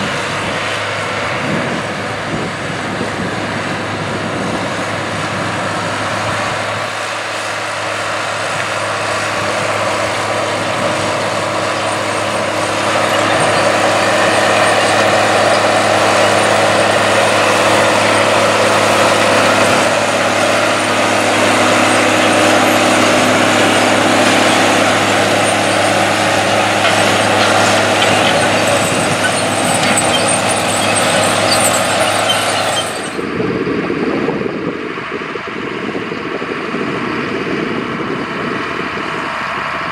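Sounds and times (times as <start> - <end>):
quieter lower tractor engine: 0.0 - 39.9
tractor diesel engine drone: 0.0 - 39.9.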